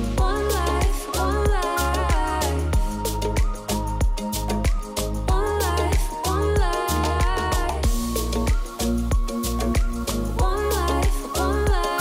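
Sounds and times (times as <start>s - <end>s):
music with heavy bass and drums: 0.0s - 12.0s.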